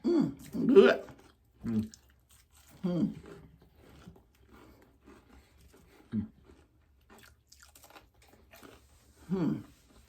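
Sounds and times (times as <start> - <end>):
crunching and chewing food: 0.0 - 10.0.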